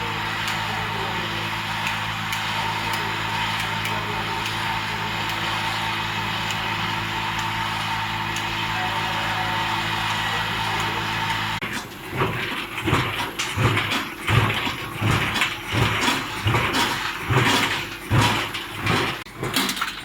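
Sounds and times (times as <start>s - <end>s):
packaging machine hum: 0.0s - 20.0s.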